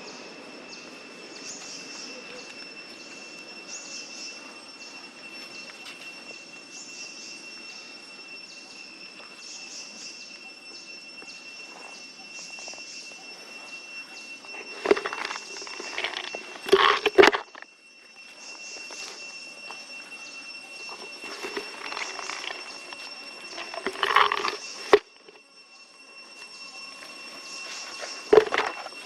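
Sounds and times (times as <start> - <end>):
faint chirping pulse: 0.0 - 29.0
high insect drone: 0.0 - 29.0.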